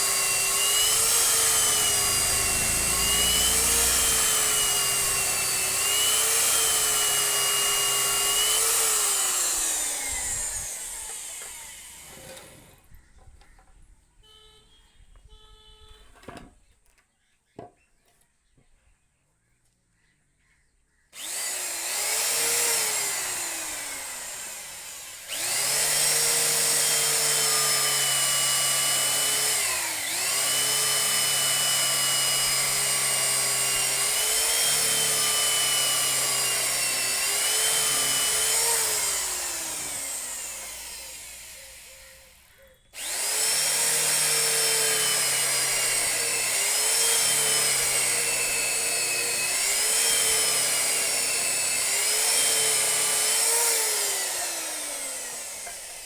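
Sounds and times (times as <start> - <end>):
power drill whining: 0.0 - 12.9, 21.2 - 56.0.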